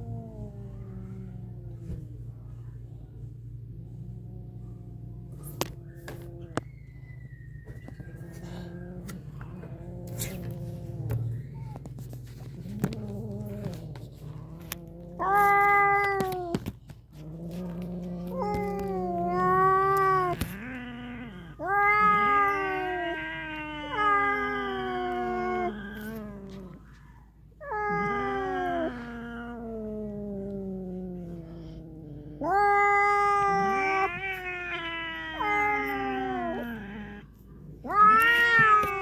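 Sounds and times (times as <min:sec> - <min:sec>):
cats yowling: 0:00.0 - 0:02.8, 0:03.7 - 0:39.0
cat growling: 0:00.0 - 0:39.0.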